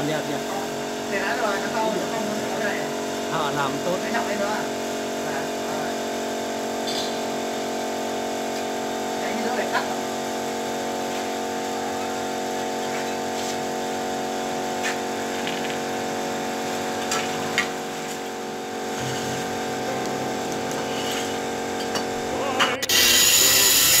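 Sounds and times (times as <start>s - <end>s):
loud harsh noise: 0.0s - 24.0s
power tool motor running: 0.0s - 24.0s.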